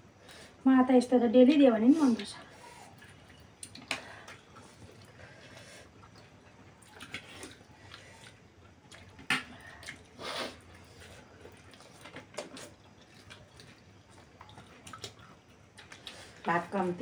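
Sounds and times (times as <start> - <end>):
noodles slurped and chewed: 2.0 - 17.0.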